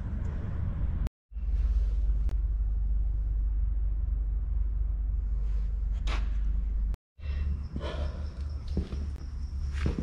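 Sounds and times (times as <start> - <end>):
low workshop hum: 0.0 - 10.0.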